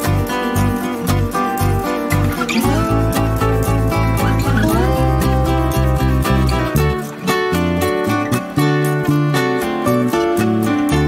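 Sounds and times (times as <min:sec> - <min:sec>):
plucked guitar-like notes: 0:00.0 - 0:11.0
pulsing bass line: 0:00.0 - 0:11.0.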